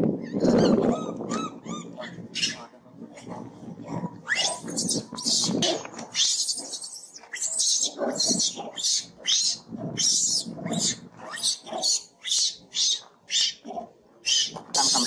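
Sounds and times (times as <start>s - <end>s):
monkey screeching: 0.3s - 2.6s, 4.3s - 13.6s, 14.3s - 15.0s.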